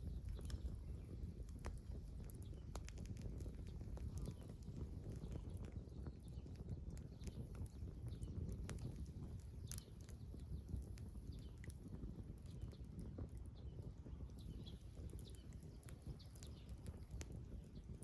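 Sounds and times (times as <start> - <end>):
campfire crackling and popping: 0.0 - 18.0
faint birds chirping: 0.0 - 18.0.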